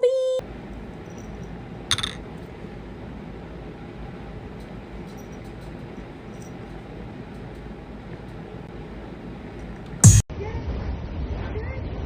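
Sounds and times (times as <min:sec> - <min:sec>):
low room hum: 0:00.0 - 0:10.2.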